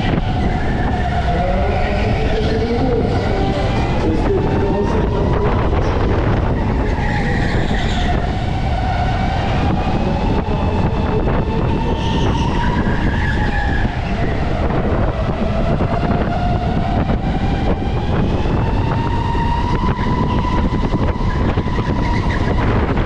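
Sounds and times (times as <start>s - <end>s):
heavy low rumble: 0.0s - 23.0s.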